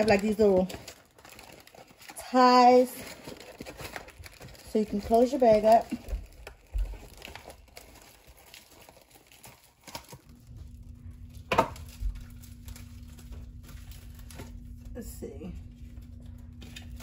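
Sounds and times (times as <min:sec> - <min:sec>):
plastic bag crinkling: 0:00.0 - 0:17.0
steady low hum: 0:00.0 - 0:17.0.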